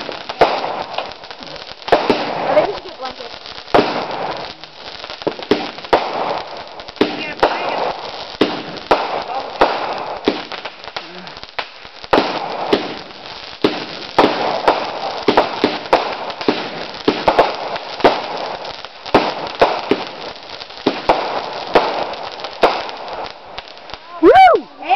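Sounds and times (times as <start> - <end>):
fireworks crackling and banging: 0.0 - 24.9.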